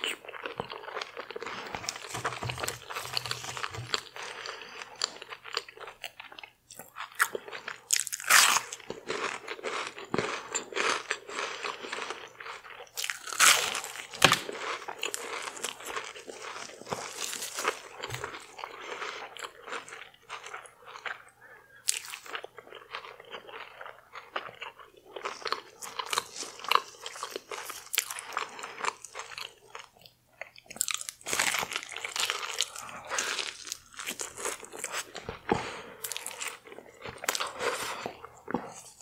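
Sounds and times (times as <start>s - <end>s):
crunchy bites and chewing: 0.0s - 39.0s.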